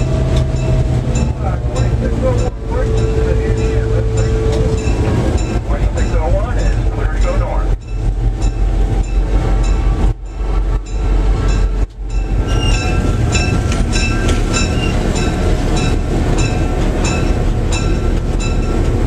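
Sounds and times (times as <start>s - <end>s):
bell clanging: 0.0s - 18.9s
diesel locomotive rumble: 0.0s - 19.0s.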